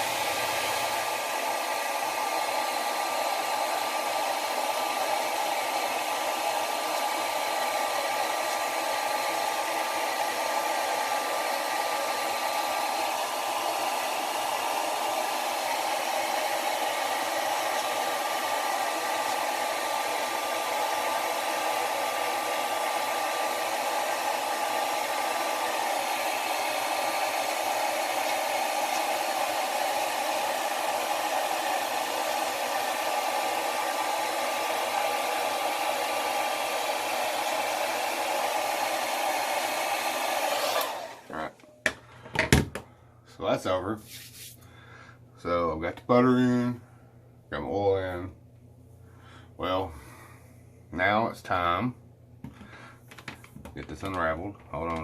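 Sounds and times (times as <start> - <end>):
blow dryer blowing air: 0.0 - 41.6, 52.4 - 55.0.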